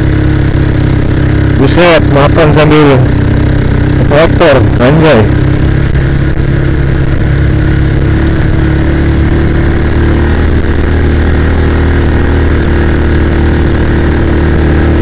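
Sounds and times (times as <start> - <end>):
motorcycle engine cruising: 0.0 - 15.0
road and wind noise: 0.0 - 15.0.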